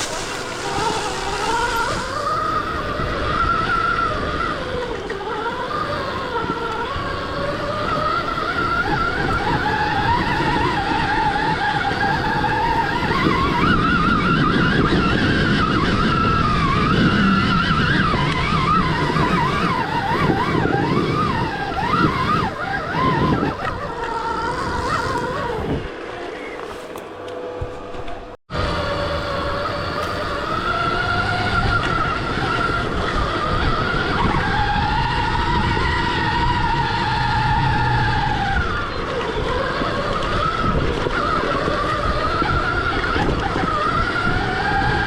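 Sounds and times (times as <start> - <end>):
electric motor whine: 0.0 - 45.0.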